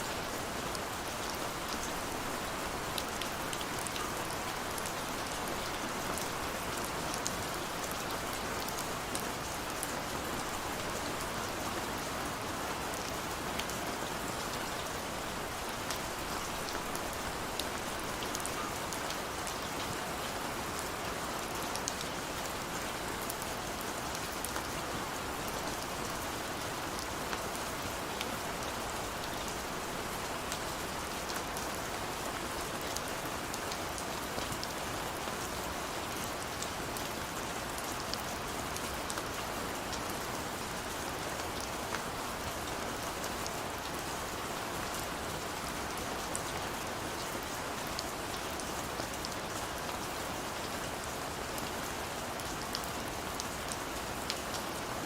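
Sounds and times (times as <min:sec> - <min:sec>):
rain drops on hard surface: 0:00.0 - 0:55.0.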